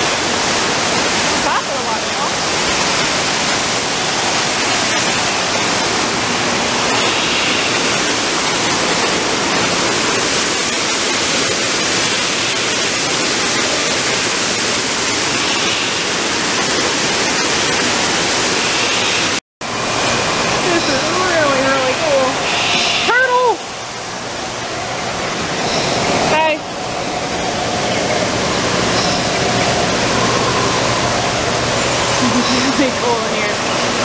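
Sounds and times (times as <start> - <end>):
waterfall splashing into pool: 0.0 - 34.0.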